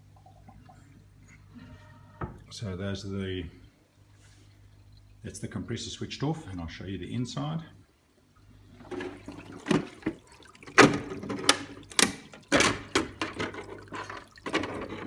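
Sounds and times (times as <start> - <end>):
aquarium water splashing: 0.0 - 15.0
low steady hum: 0.0 - 15.0.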